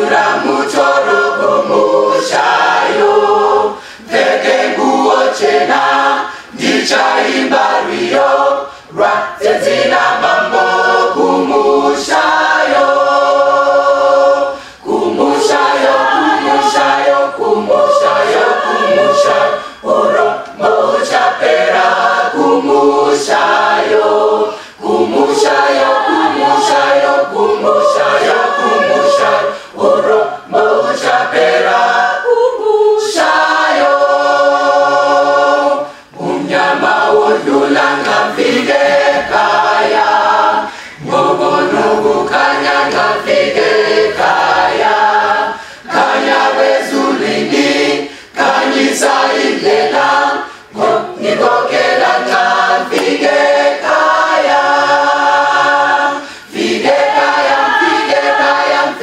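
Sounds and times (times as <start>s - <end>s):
choir singing unaccompanied: 0.0s - 59.0s.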